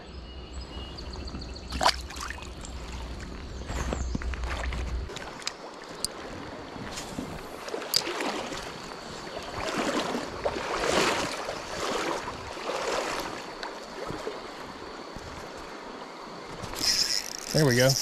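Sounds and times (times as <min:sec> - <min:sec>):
stream water rushing: 0:01.7 - 0:03.5, 0:04.3 - 0:18.0.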